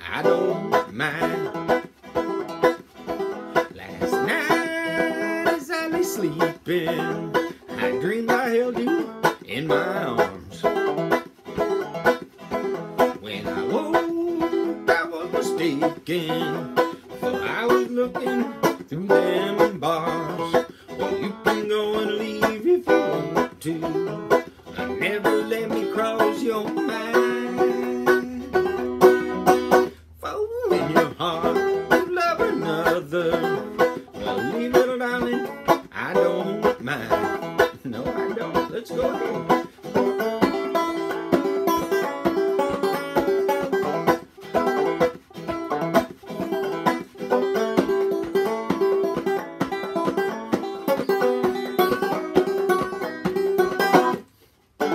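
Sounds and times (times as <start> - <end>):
banjo playing: 0.0 - 54.9.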